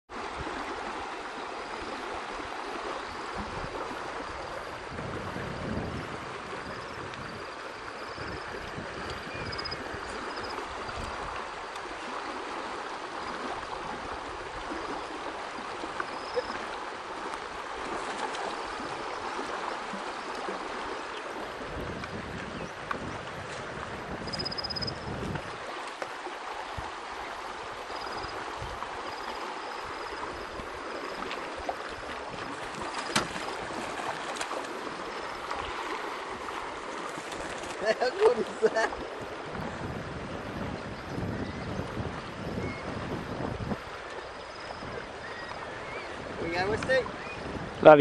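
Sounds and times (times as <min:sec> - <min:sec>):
creek water rushing and gurgling: 0:00.1 - 0:48.0.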